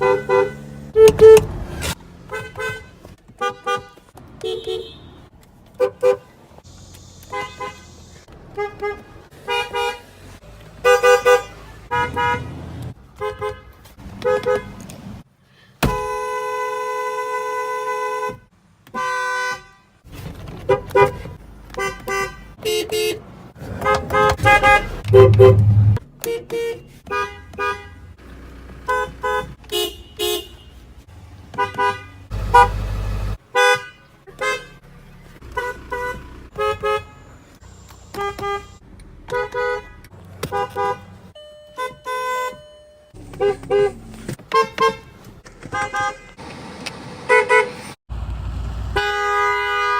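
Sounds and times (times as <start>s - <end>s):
car horns honking: 0.0s - 14.9s, 15.8s - 20.0s, 20.6s - 46.5s, 47.3s - 48.0s, 48.8s - 49.9s.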